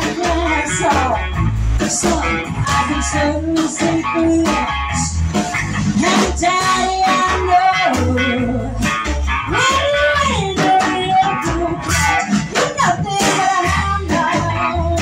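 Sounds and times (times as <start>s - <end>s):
drum kit: 0.0s - 15.0s
electric guitar: 0.0s - 15.0s
upright double bass: 0.0s - 15.0s
woman singing into microphone: 0.0s - 15.0s.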